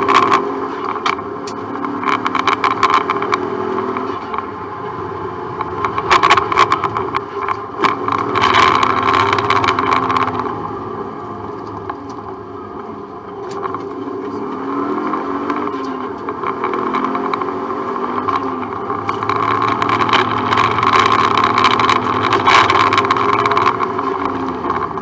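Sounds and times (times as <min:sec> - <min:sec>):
car clicks and rattles: 0:00.0 - 0:25.0
rally car engine at speed: 0:00.0 - 0:25.0.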